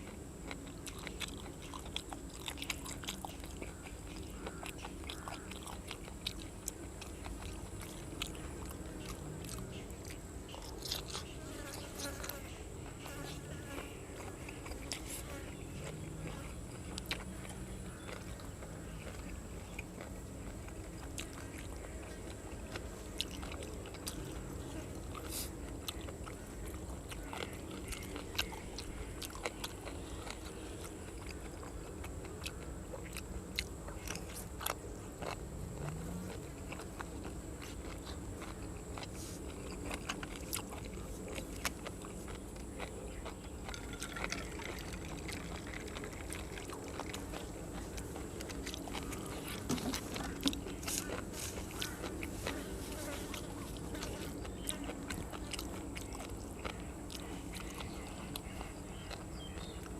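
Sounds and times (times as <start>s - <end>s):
low background hum: 0.0s - 59.9s
person chewing crunchy food: 0.0s - 59.9s.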